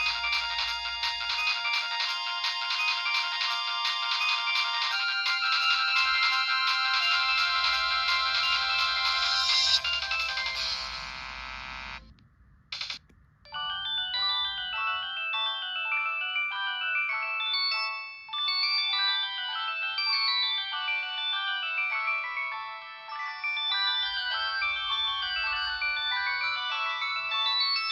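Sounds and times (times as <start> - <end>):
polyphonic phone ringtone: 0.0 - 12.0, 12.8 - 27.9.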